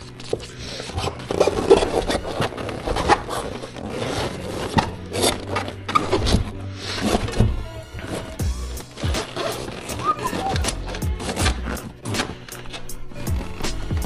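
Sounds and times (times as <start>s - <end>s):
rubber scraping on rubber and metal: 0.0s - 14.0s.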